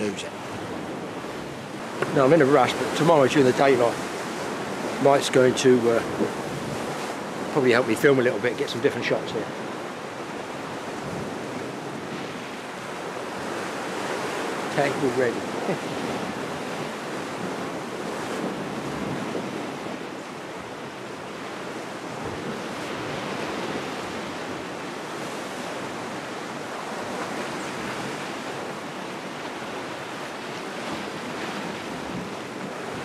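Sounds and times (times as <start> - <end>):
sea waves breaking over rocks: 0.0 - 33.0
wind on microphone: 0.0 - 33.0.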